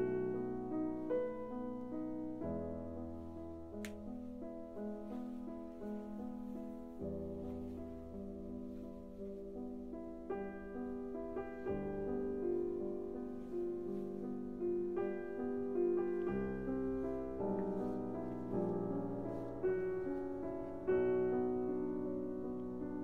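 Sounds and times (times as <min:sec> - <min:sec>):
slow solo piano melody: 0:00.0 - 0:23.0.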